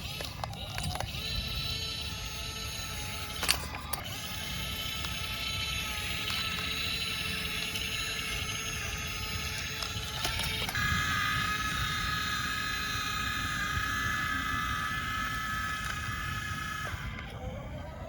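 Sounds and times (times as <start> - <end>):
small electric motors whining: 0.0 - 18.0.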